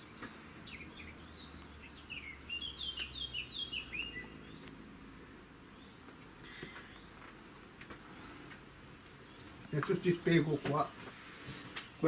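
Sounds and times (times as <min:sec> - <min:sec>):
songbird chirping: 0:00.0 - 0:07.4, 0:08.2 - 0:10.9.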